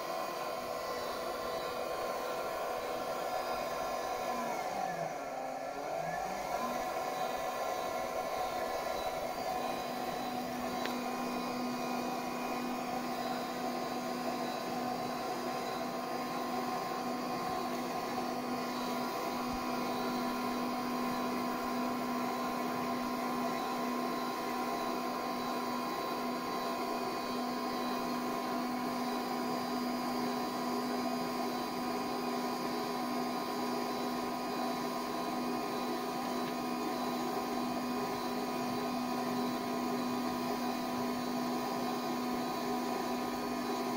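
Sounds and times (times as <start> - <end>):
machine motor humming: 0.0 - 43.9.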